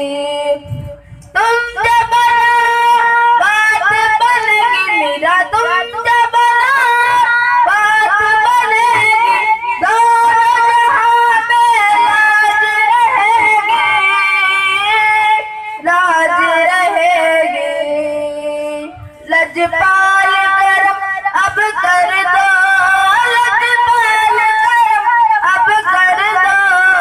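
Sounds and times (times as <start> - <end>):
boy singing into a microphone: 0.0 - 27.0.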